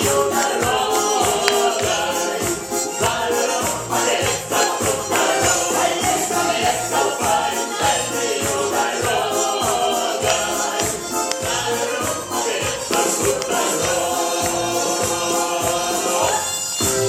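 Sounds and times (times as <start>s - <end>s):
pop song with singing: 0.0s - 17.0s.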